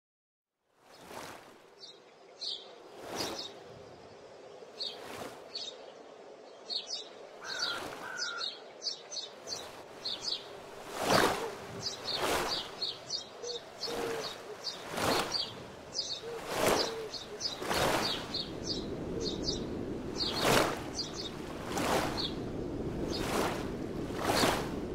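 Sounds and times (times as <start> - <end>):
small birds chirping: 1.8 - 22.4, 23.0 - 23.5.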